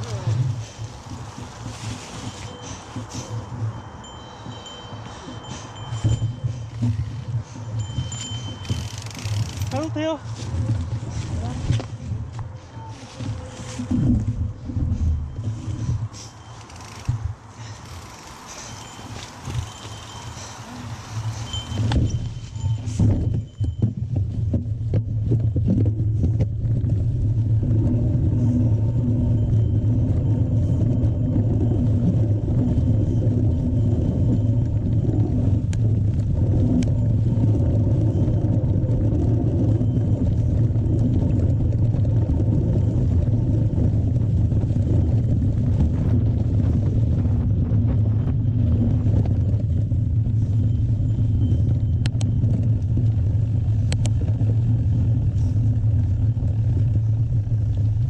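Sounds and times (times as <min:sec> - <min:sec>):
bike clicks and rattles: 0:00.0 - 0:12.5, 0:13.1 - 0:58.0
wind rumble: 0:00.0 - 0:58.0.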